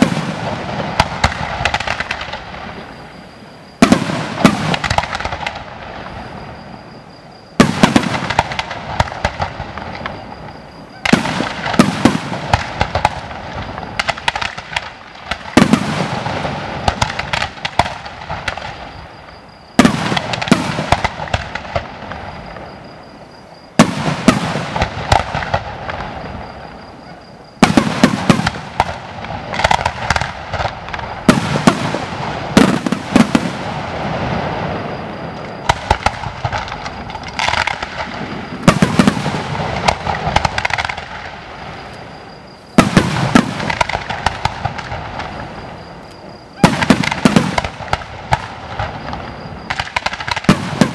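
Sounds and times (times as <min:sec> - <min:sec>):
crackling firework pops: 0:00.0 - 0:02.9, 0:03.8 - 0:06.2, 0:07.6 - 0:19.0, 0:19.8 - 0:22.7, 0:23.8 - 0:26.6, 0:27.6 - 0:33.8, 0:35.3 - 0:42.1, 0:42.8 - 0:50.9.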